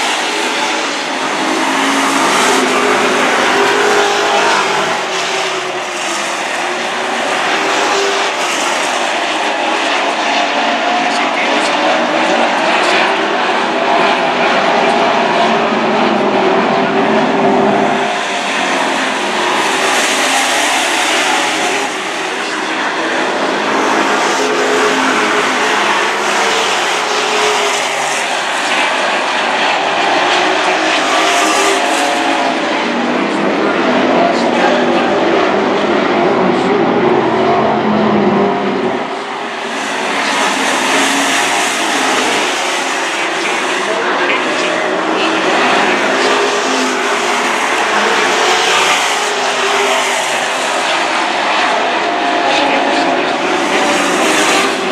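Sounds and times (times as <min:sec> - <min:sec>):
broad rushing noise: 0:00.0 - 0:54.9
racing truck engines droning: 0:00.0 - 0:54.9.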